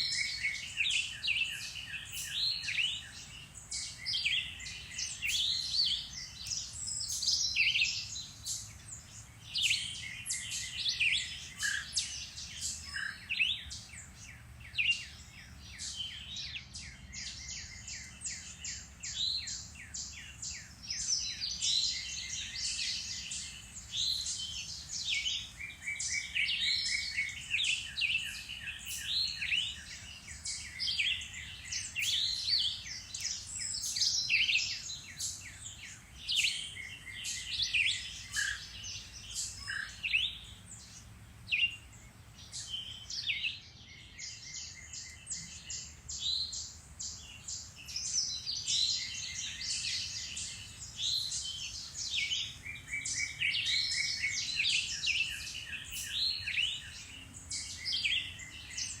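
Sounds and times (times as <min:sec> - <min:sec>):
songbirds singing and calling: 0:00.0 - 0:59.0.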